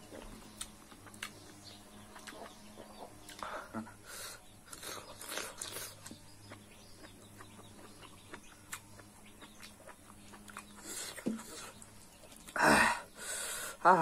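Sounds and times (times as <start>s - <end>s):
close-up chewing: 0.0s - 12.6s
steady low hum: 0.0s - 14.0s.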